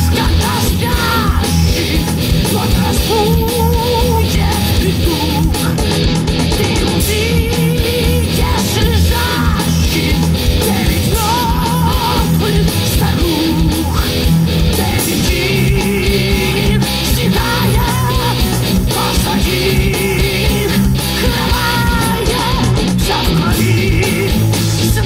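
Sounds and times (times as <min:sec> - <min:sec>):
distorted electric guitars: 0:00.0 - 0:25.0
drums: 0:00.0 - 0:25.0.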